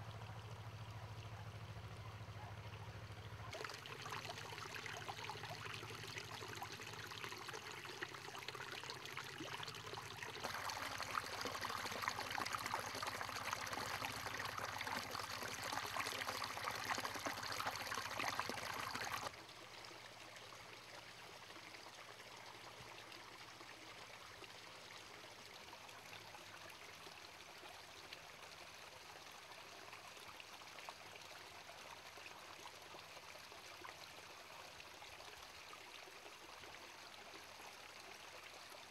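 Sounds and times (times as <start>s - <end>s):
stream water running over rocks: 3.5s - 38.9s.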